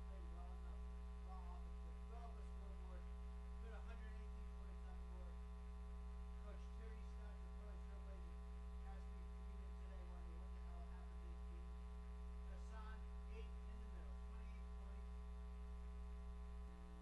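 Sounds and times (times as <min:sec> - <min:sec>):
faint indistinct talking: 0:00.0 - 0:16.7
electrical mains hum: 0:00.0 - 0:17.0.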